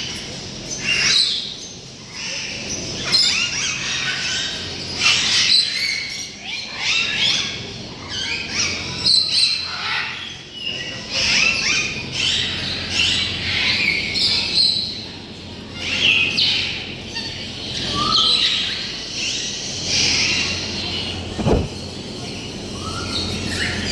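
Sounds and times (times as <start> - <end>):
birds chirping: 0.1 - 23.9.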